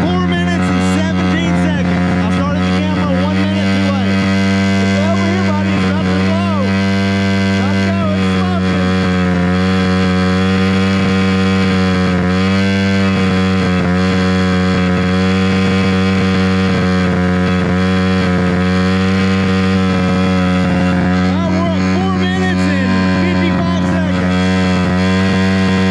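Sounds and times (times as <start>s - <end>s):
pit bike engine at high revs: 0.0s - 25.9s.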